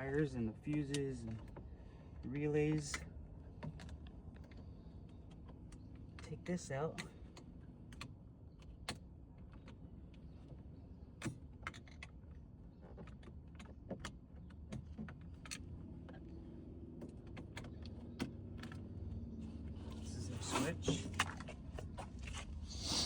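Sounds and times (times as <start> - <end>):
light clicks and small rattles: 0.5 - 22.5.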